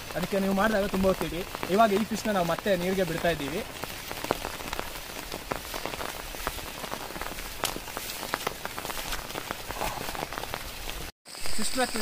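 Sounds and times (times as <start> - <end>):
heavy rain on pond: 0.0 - 12.0.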